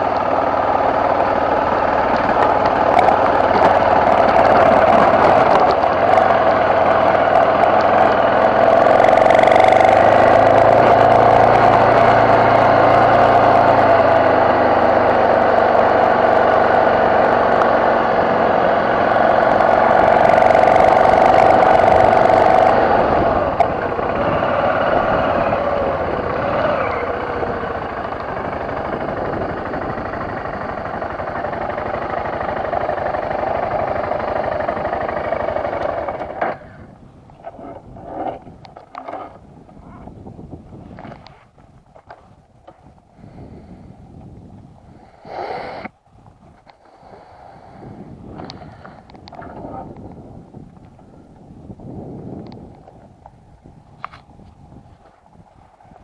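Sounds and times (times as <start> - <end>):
motorcycle engine running: 0.0 - 45.3, 45.9 - 56.0
faint wind: 0.0 - 56.0.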